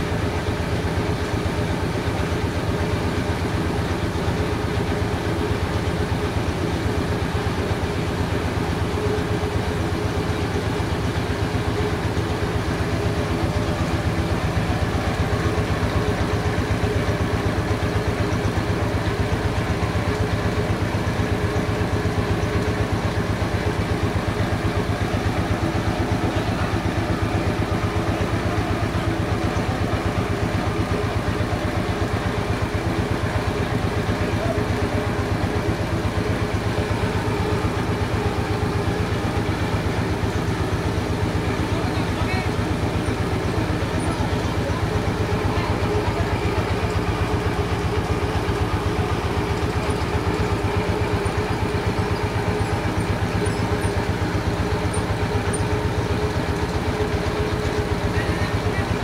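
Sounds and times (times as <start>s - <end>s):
engine running with even pulsing: 0.0s - 59.0s.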